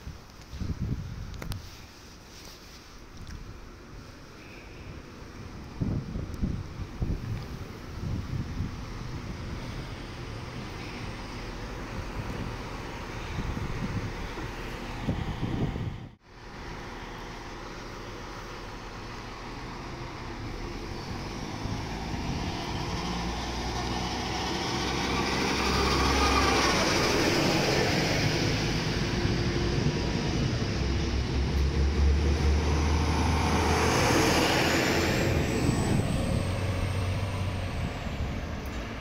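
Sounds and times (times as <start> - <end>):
wheels rumbling on rails: 0.0 - 39.0
diesel train engine under load: 3.6 - 39.0.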